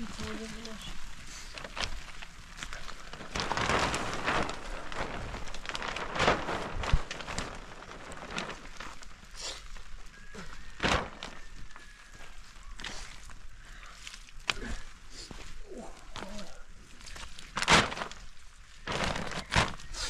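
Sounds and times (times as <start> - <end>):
plastic sheeting crackling: 0.0 - 20.0.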